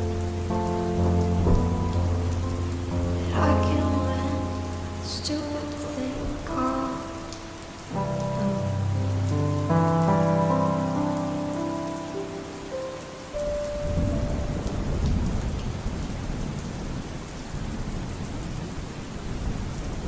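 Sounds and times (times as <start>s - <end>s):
low roll of thunder: 0.0s - 11.8s, 13.4s - 20.0s
steady rain: 0.0s - 20.0s.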